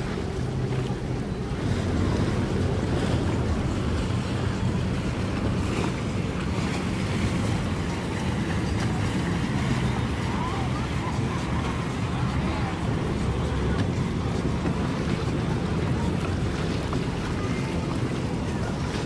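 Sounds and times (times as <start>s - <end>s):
low rumble of boats: 0.0s - 19.0s
water: 0.0s - 19.0s
wind buffeting microphone: 0.0s - 19.0s.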